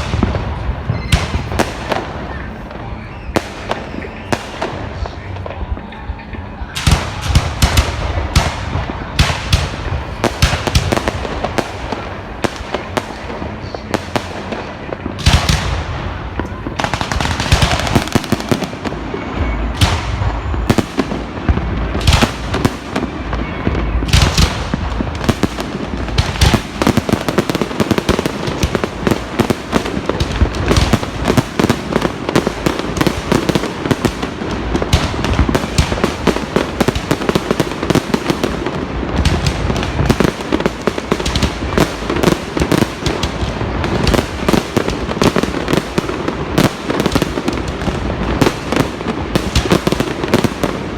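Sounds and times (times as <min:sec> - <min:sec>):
firework booms: 0:00.0 - 0:05.9, 0:06.7 - 0:50.9
fireworks crackling: 0:00.0 - 0:50.9.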